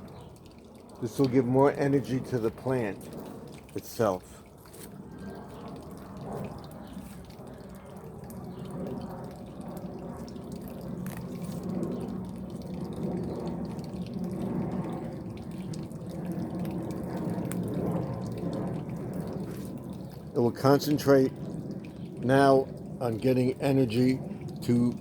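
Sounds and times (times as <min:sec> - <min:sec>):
water trickling and dripping: 0:00.0 - 0:25.0.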